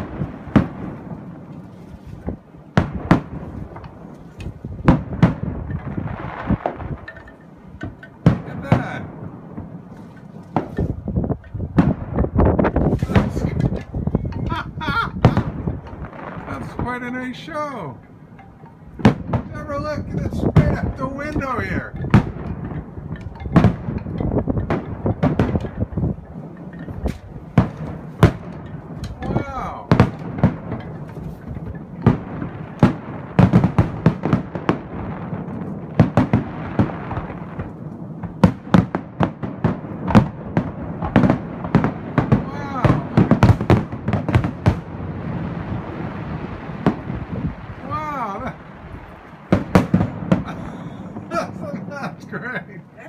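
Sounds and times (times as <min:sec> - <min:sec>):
fireworks bursting: 0:00.0 - 0:53.0
rumbling: 0:00.0 - 0:53.0.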